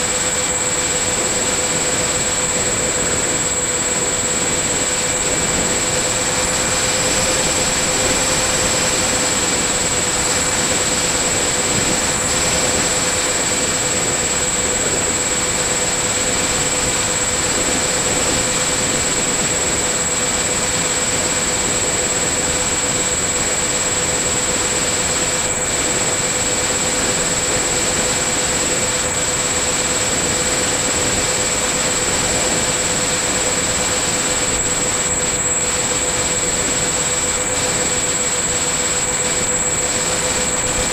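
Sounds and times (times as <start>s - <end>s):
model plane motor whine: 0.0s - 40.9s.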